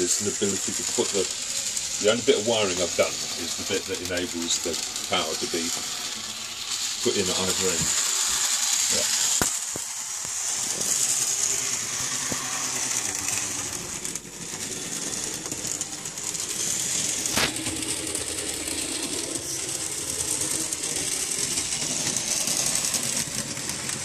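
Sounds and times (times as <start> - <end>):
model tram motor whirr: 0.0 - 24.0.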